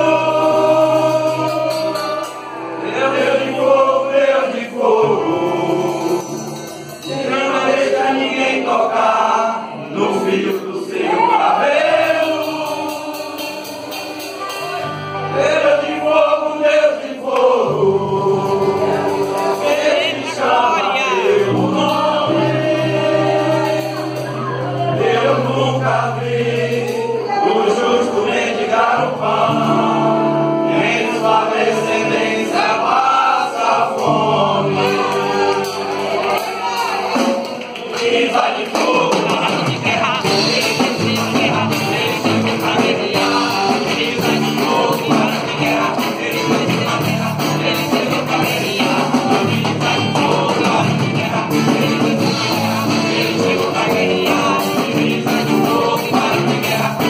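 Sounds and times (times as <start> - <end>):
instrumental accompaniment: 0.0 - 57.0
men's choir singing gospel: 0.0 - 57.0.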